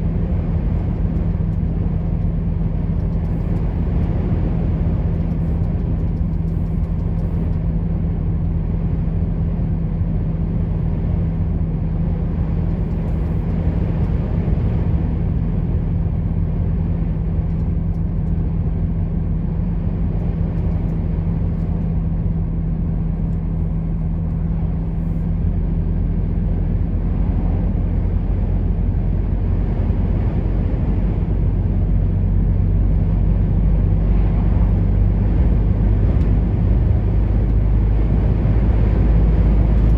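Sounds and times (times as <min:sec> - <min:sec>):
road and tyre noise: 0:00.0 - 0:39.9
truck engine droning: 0:00.0 - 0:39.9.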